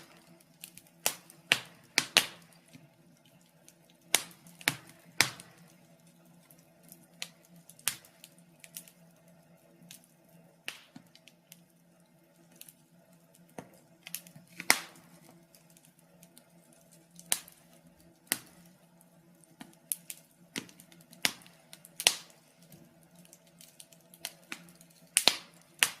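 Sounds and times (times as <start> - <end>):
faint low hum: 0.0 - 26.0
wood fire crackling: 0.0 - 26.0.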